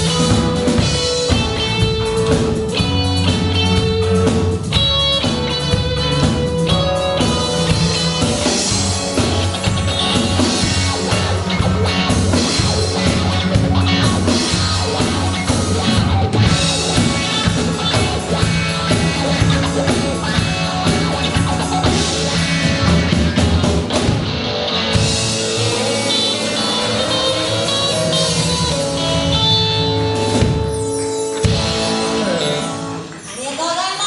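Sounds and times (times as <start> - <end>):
electric guitar: 0.0 - 34.0
rock band playing: 0.0 - 34.0.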